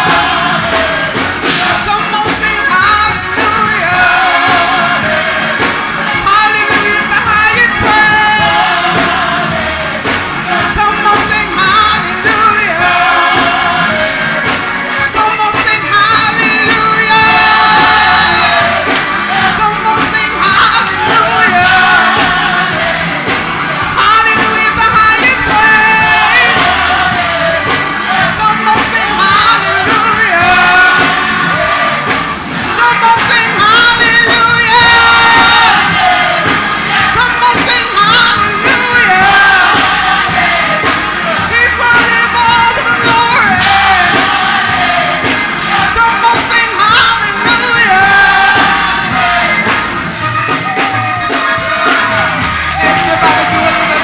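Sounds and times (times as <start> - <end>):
gospel band playing: 0.0 - 54.0
person singing into microphone: 0.0 - 54.0.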